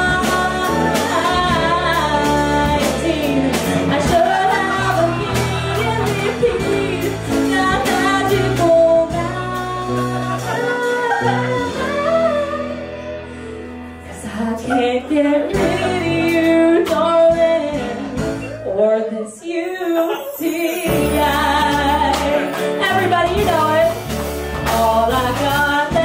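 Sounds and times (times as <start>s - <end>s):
woman singing: 0.0s - 13.2s, 14.0s - 26.0s
bass guitar: 0.0s - 18.9s, 20.5s - 26.0s
drums: 0.0s - 26.0s
piano: 0.0s - 26.0s.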